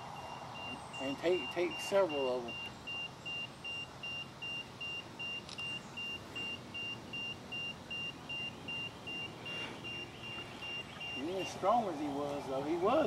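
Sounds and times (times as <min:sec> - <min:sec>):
short high-pitched beeps: 0:00.2 - 0:11.7.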